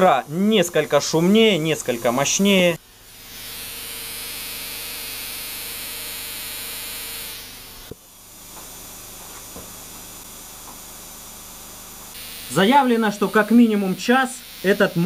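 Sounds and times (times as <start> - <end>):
spark plug hiss-buzz: 1.8 - 15.0.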